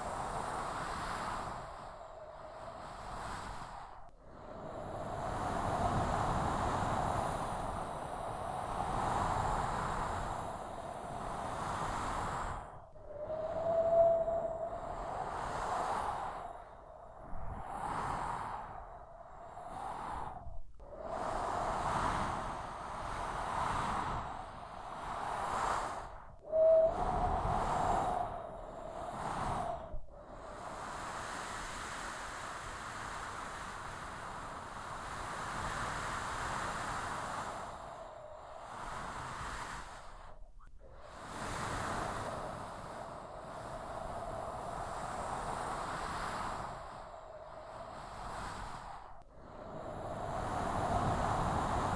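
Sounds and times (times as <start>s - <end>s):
high wind whistle: 0.0s - 31.8s, 37.0s - 40.2s, 41.4s - 51.9s
strong gusting wind: 0.0s - 31.9s, 41.2s - 51.9s.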